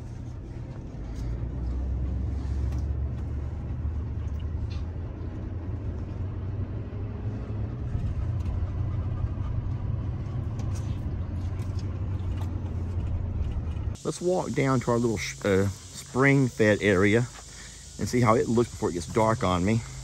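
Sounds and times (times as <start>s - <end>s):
truck driving rumble: 0.0s - 20.0s.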